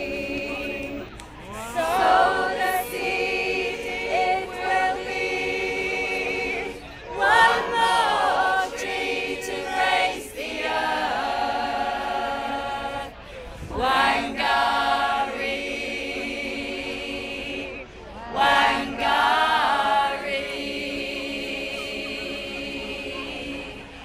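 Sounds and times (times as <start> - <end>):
mixed choir singing unaccompanied: 0.0 - 24.0.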